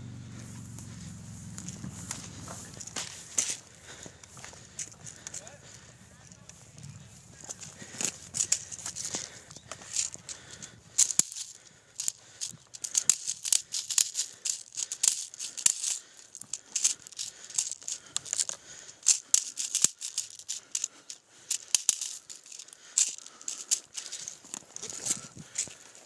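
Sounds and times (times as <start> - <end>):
footsteps through dry leaves: 0.3 - 26.0.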